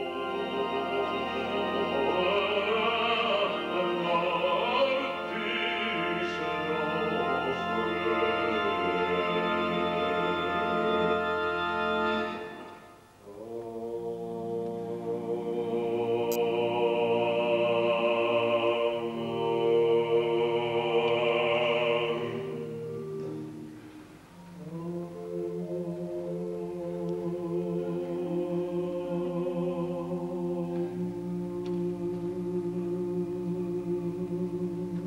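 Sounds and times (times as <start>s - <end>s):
solo voice singing: 0.0s - 11.0s, 13.2s - 23.1s, 24.6s - 35.0s
male choir singing: 0.0s - 12.7s, 13.3s - 23.2s, 24.6s - 35.0s.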